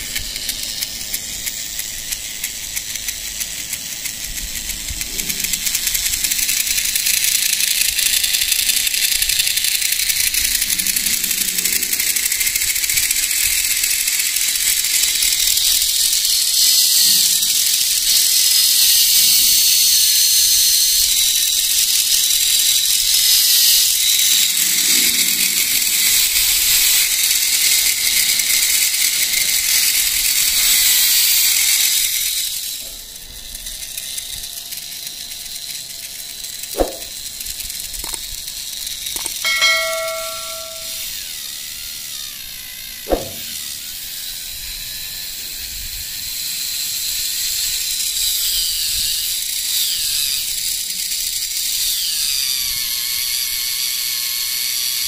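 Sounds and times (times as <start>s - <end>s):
small gearbox whirring: 0.0s - 55.0s.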